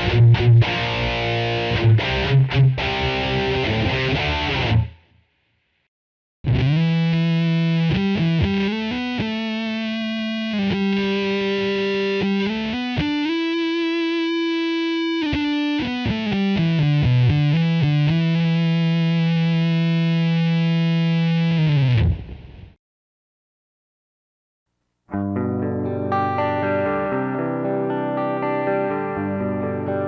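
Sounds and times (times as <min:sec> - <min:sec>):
distorted electric guitar melody: 0:00.0 - 0:05.1, 0:06.4 - 0:22.8, 0:25.1 - 0:30.0.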